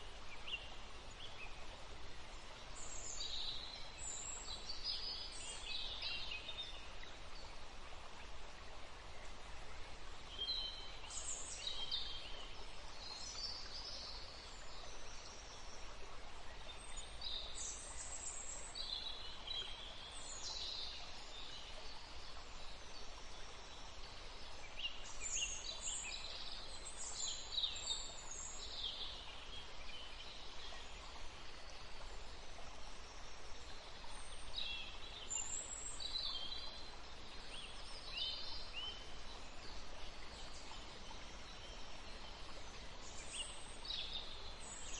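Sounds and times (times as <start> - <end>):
soft background hiss: 0.0 - 44.9
songbirds singing: 8.9 - 44.9.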